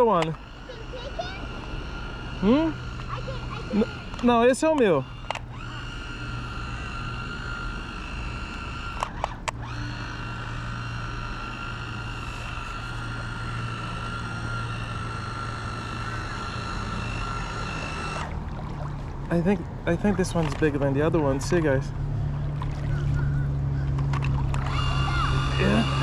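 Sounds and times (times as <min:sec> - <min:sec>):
small boat motor whining: 0:00.0 - 0:26.0.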